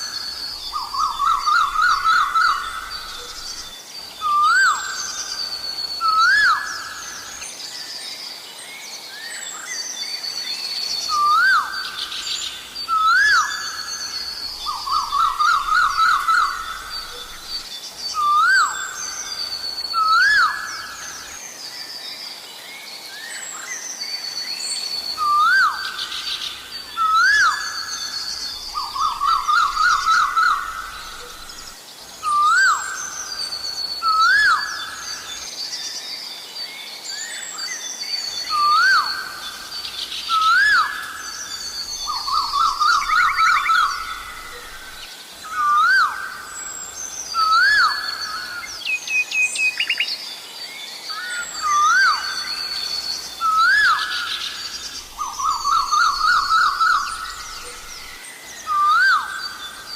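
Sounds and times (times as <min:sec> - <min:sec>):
bird whistled calls: 0:00.0 - 0:07.4, 0:11.1 - 0:21.3, 0:25.0 - 0:35.4, 0:37.2 - 0:50.2, 0:51.1 - 0:59.9
small birds singing: 0:00.0 - 0:59.9.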